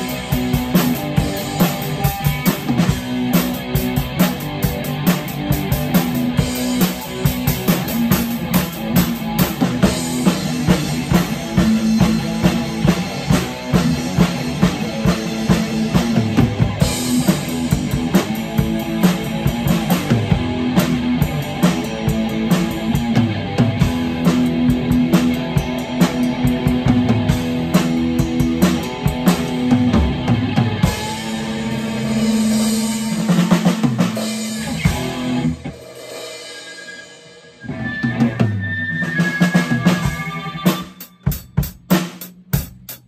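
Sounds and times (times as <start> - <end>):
guitar notes: 0.0 - 35.8, 36.6 - 41.0
drum kit playing: 0.0 - 43.0.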